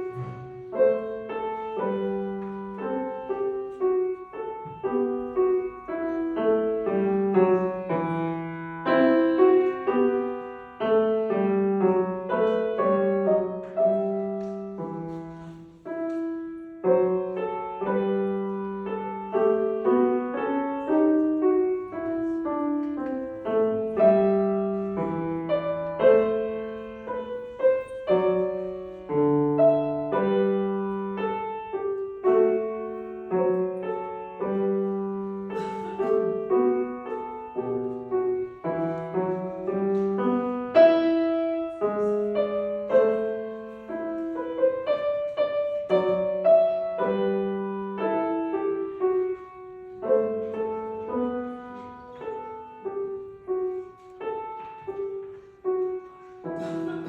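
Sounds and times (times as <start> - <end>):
solo piano folk melody: 0.0 - 57.0.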